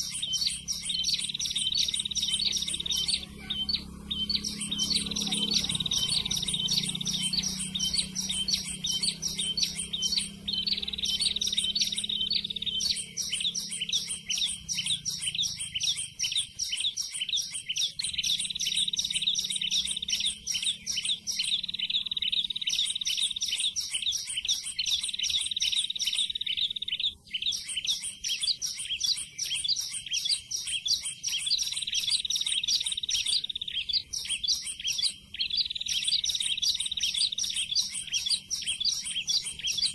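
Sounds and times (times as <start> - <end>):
recorded bird song: 0.0 - 39.9.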